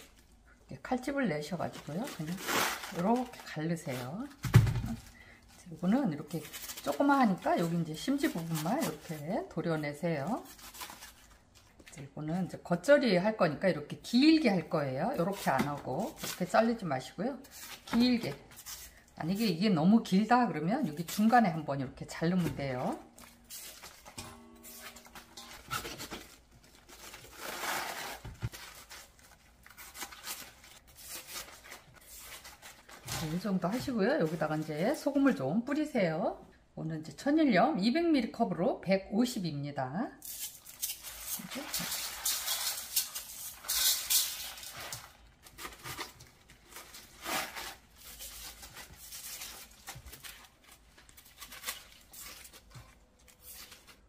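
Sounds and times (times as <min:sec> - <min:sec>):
cabbage leaves rustling and crackling: 0:01.0 - 0:11.4, 0:14.4 - 0:35.4, 0:40.2 - 0:54.0.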